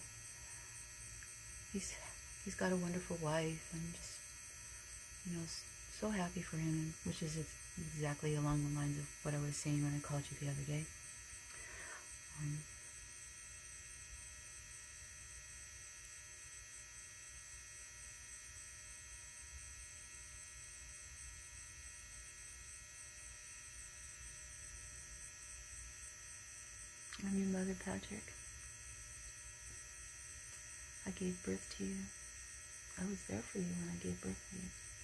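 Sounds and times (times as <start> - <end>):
electrical hum: 0.0 - 35.0
thin high whine: 0.0 - 35.0.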